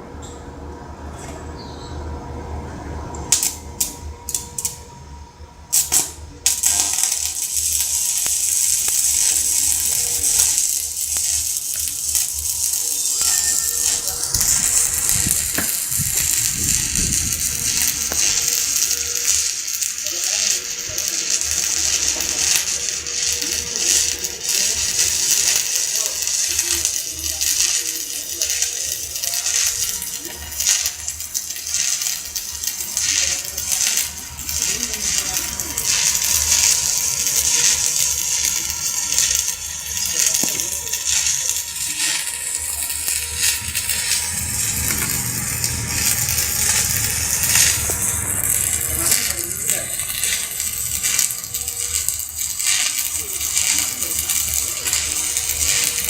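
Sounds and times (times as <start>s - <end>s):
welding arc crackling: 3.3s - 4.9s, 5.7s - 56.0s.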